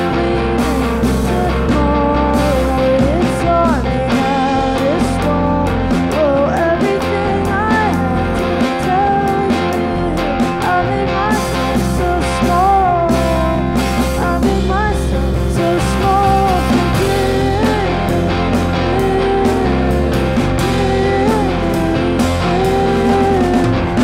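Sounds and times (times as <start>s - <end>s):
bass guitar: 0.0s - 24.0s
drum kit: 0.0s - 24.0s
electric guitar: 0.0s - 24.0s
woman singing: 0.0s - 24.0s.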